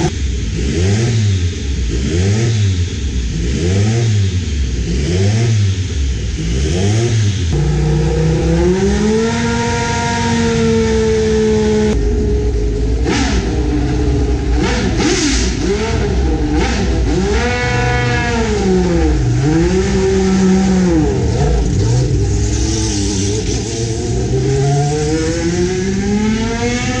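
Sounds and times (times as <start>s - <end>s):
racing car engines: 0.0s - 27.0s.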